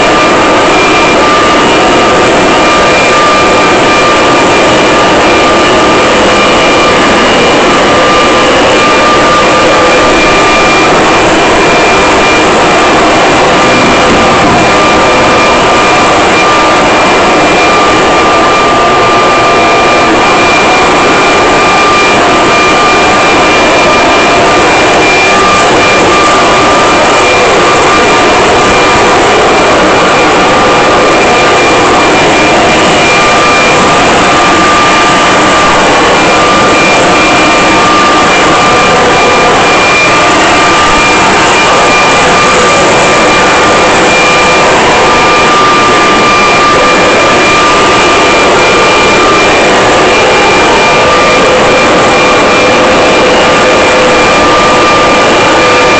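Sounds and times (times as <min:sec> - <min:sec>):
leaf blower running: 0:00.0 - 0:55.9.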